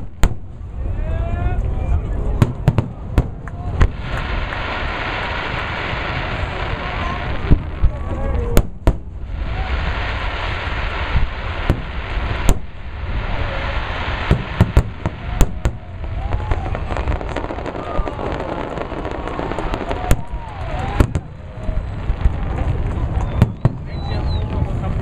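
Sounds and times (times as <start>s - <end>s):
fireworks bursting with sharp bangs: 0.0s - 1.0s, 2.2s - 25.0s
low rumble and hiss: 0.0s - 25.0s.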